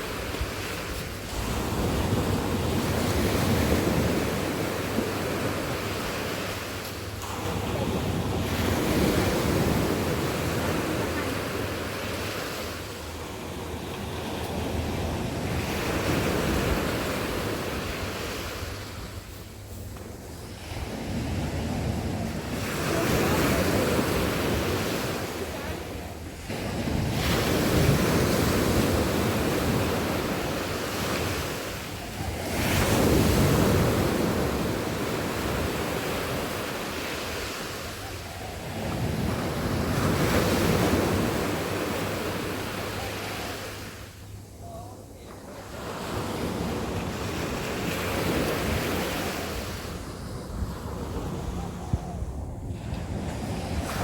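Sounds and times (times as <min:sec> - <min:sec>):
sea waves breaking on beach: 0:00.0 - 0:44.2, 0:45.6 - 0:54.0.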